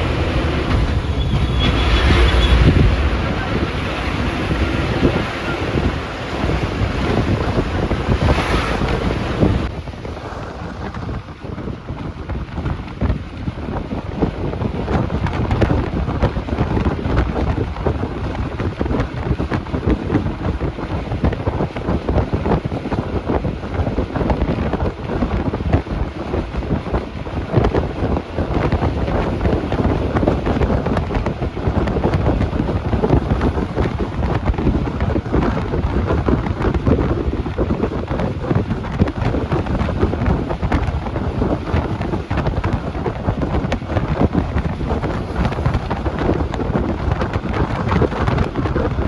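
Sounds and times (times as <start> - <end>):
bus engine and road noise: 0.0 - 49.0
wind buffeting microphone: 0.0 - 49.0.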